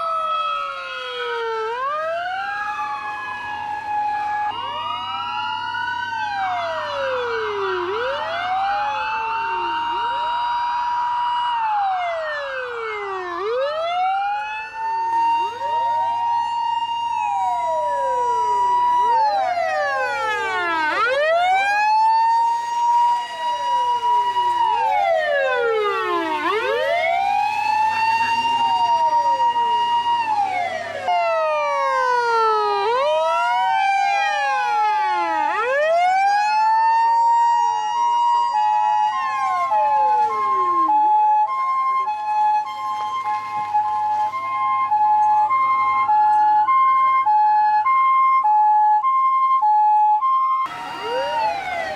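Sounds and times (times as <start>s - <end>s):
siren wailing: 0.0s - 51.9s
two-tone hi-lo siren: 0.0s - 51.9s.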